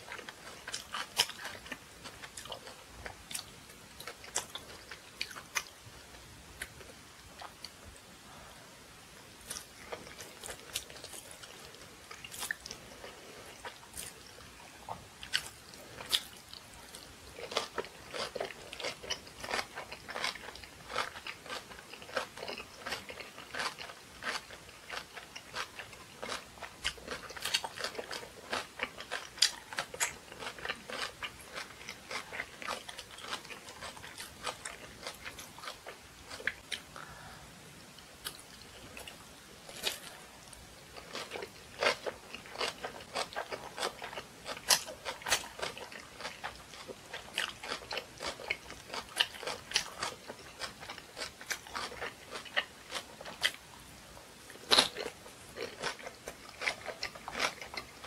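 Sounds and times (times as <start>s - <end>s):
person chewing crunchy food: 0.0s - 5.8s, 9.4s - 37.3s, 38.2s - 53.7s, 54.4s - 58.0s.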